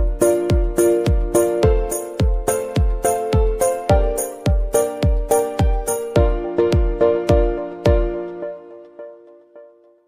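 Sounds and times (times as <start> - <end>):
deep kick drum: 0.0 - 8.1.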